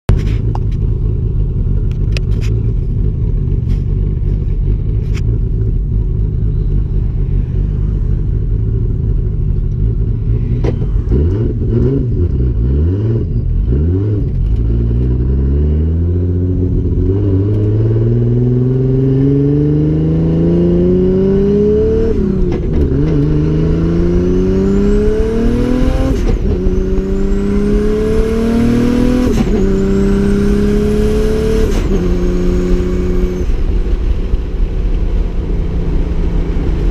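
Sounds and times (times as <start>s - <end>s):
car engine accelerating: 0.1s - 36.9s.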